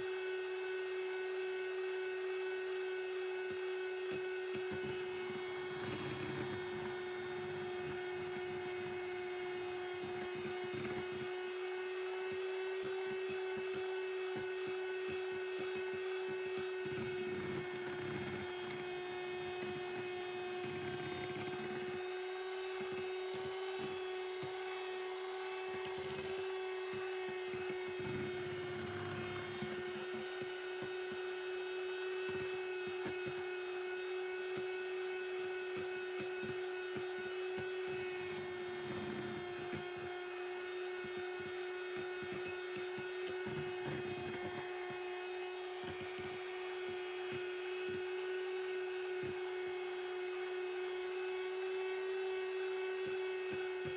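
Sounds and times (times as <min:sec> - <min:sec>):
electric hand mixer running: 0:00.0 - 0:53.9.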